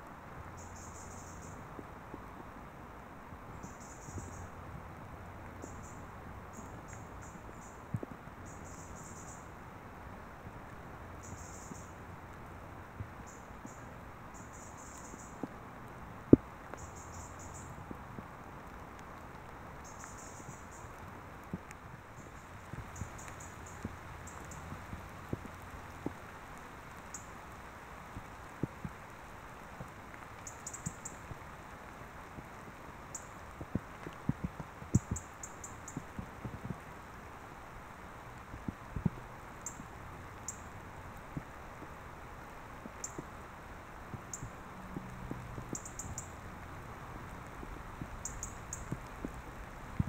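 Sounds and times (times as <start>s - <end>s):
raindrops clicking on microphone: 0.0s - 50.0s
steady hiss: 0.0s - 50.0s.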